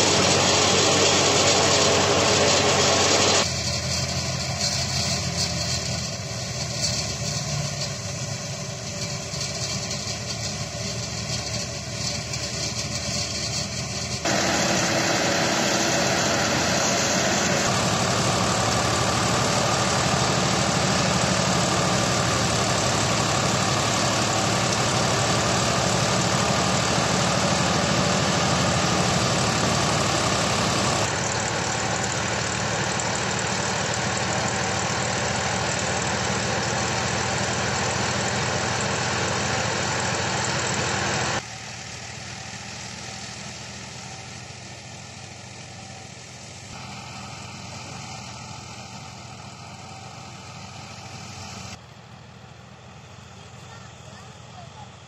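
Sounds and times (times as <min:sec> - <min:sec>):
tractor engine running: 0:00.0 - 0:55.0
wheat thresher running: 0:00.0 - 0:55.0.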